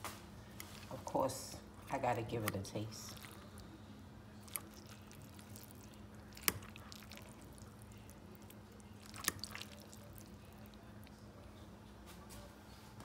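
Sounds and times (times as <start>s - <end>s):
quiet eating sounds: 0.0s - 13.0s
steady low hum: 0.0s - 13.0s.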